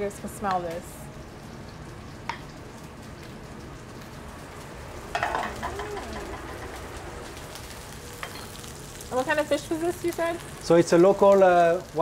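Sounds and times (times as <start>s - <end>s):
food sizzling in pan: 0.0s - 12.0s.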